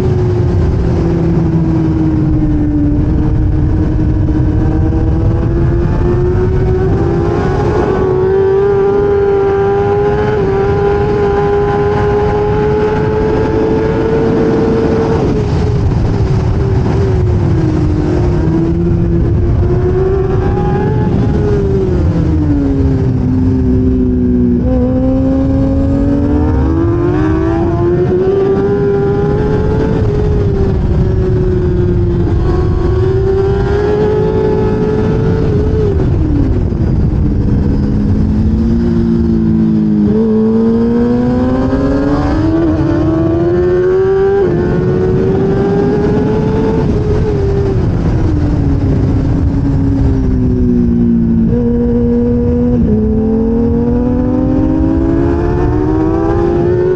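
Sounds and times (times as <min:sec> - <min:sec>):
heavy low rush: 0:00.0 - 0:56.9
racing motorcycle engine: 0:00.0 - 0:56.9.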